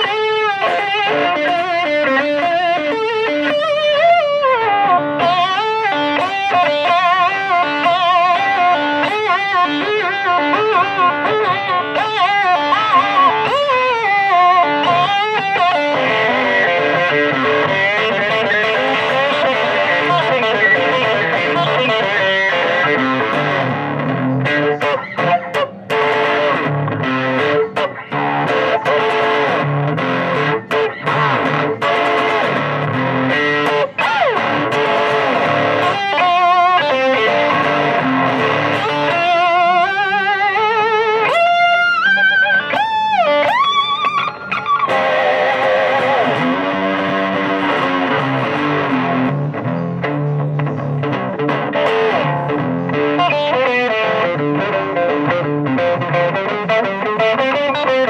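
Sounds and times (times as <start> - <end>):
overdriven slide steel guitar: 0.0 - 58.0.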